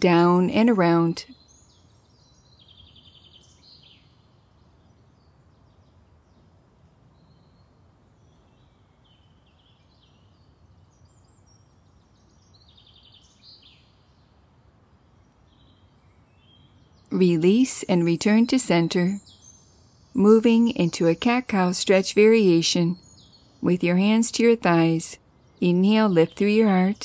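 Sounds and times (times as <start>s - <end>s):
songbirds chirping and trilling: 0.0s - 27.0s
steady outdoor background noise: 0.0s - 27.0s.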